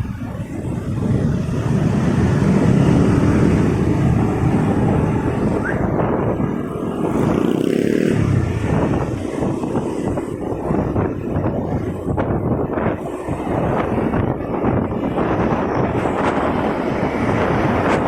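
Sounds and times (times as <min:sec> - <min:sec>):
motorcycle engine rumble: 0:00.0 - 0:18.0
road traffic noise: 0:00.0 - 0:18.0.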